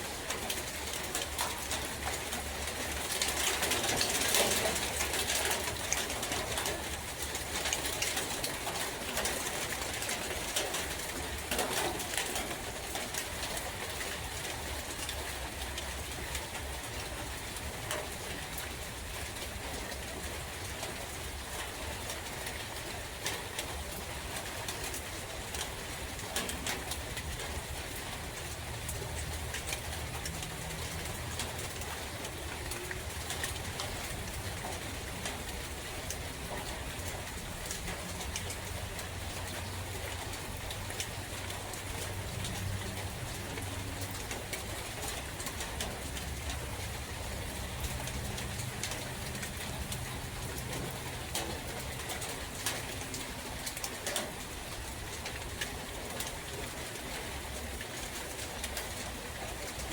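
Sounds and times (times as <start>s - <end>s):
rain in a forest: 0.0s - 59.9s.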